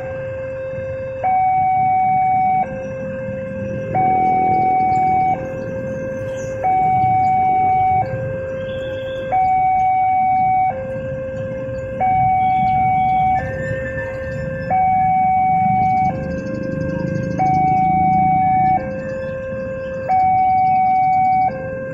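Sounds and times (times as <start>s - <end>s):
two-tone crossing alarm: 0.0s - 21.9s.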